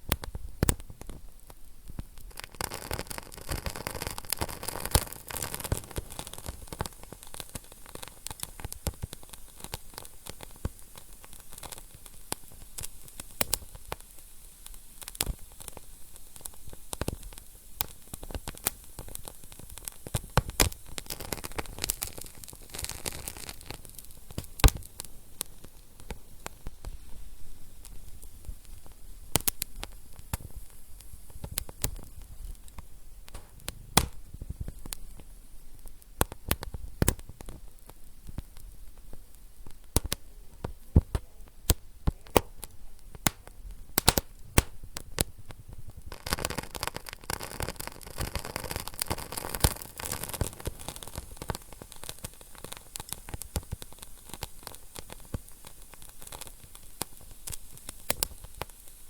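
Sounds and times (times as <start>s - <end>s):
steady hiss: 0.0s - 59.0s
wood fire crackling and popping: 0.0s - 59.0s.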